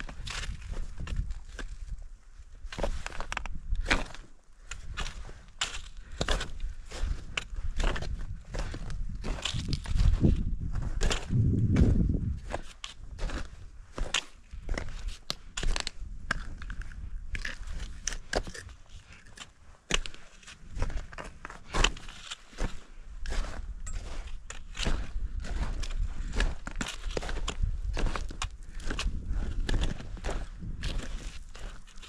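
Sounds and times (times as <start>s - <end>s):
footsteps crunching on trail: 0.0s - 32.0s.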